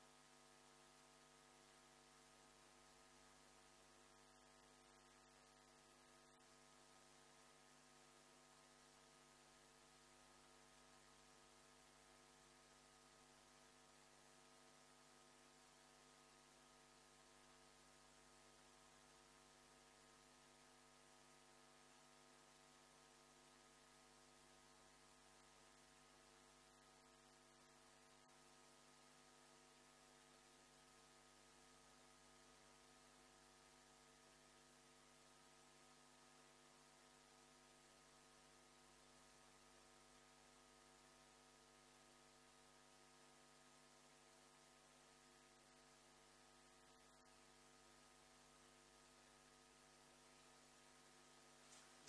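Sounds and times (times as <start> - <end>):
faint electrical hum: 0.0 - 52.0.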